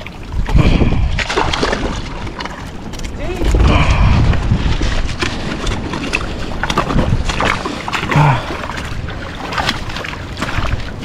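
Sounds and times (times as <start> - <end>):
rushing water: 0.0 - 11.0
wind: 0.0 - 11.0.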